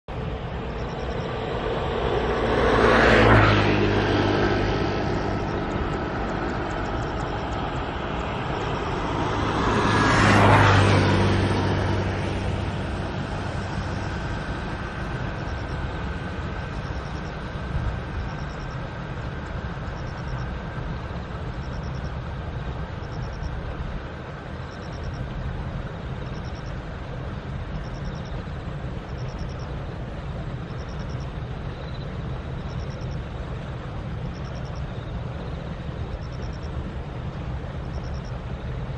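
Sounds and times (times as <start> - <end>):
distant road traffic hum: 0.0 - 38.9
vehicle passing by: 0.1 - 38.9.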